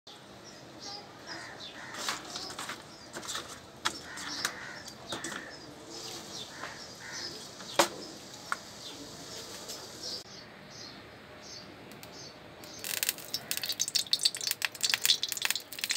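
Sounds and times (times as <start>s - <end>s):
birds chirping: 0.1s - 15.9s.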